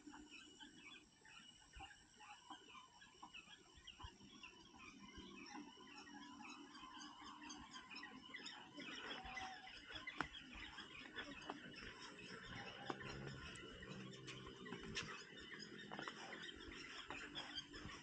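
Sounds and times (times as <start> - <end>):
small chirping calls: 0.0 - 18.0
chickens clucking: 1.8 - 18.0.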